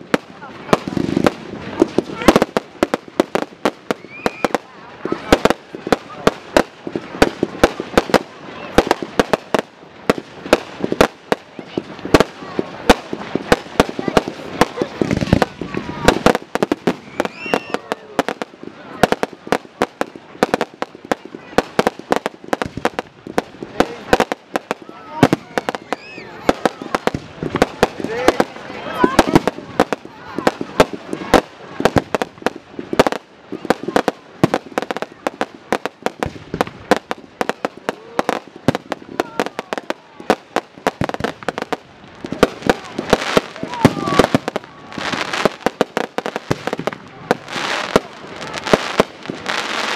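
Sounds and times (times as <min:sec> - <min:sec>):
fireworks bangs: 0:00.0 - 0:49.9
fireworks crackle: 0:00.0 - 0:49.9.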